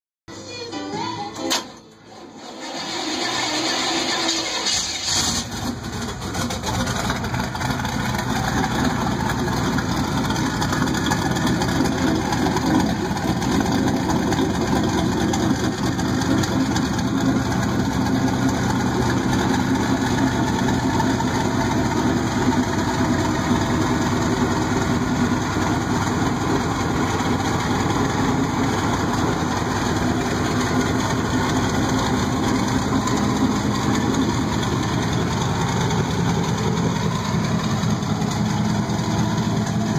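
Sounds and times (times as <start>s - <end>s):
engine idling: 2.0s - 39.9s.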